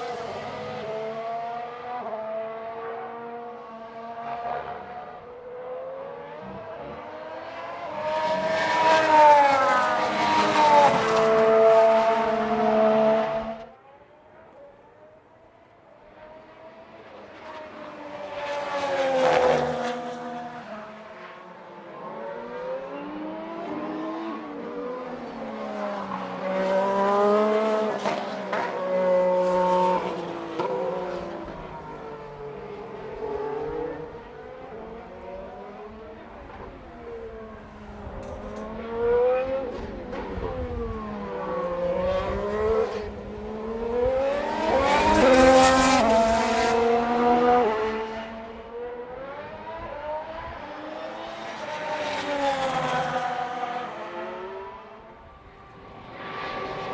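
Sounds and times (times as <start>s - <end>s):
racing cars passing at speed: 0.0s - 56.9s.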